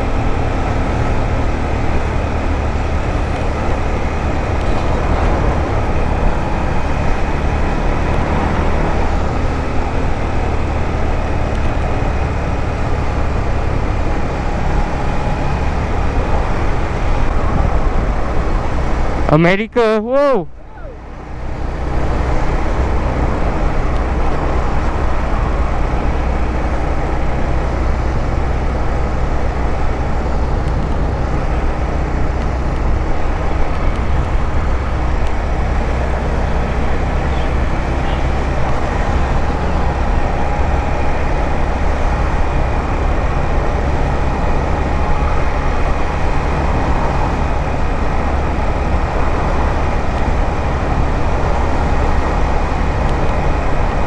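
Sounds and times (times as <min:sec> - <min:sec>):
motorcycle engine riding: 0:00.0 - 0:19.3, 0:21.0 - 0:54.0.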